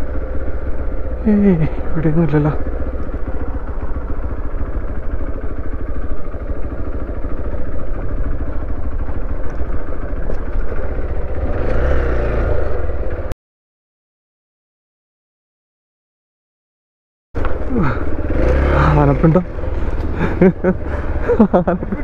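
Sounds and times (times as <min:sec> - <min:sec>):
motorcycle engine running: 0:00.0 - 0:13.4, 0:17.4 - 0:22.0.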